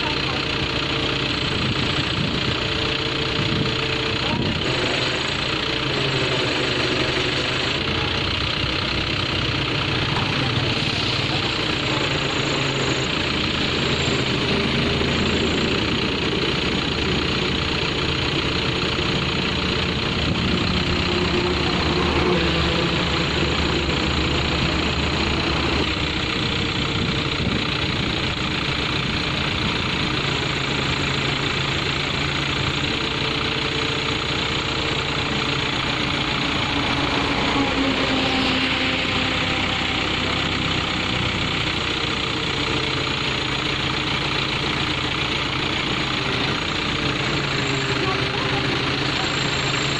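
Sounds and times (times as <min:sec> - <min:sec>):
vehicle engine idling: 0:00.0 - 0:49.9.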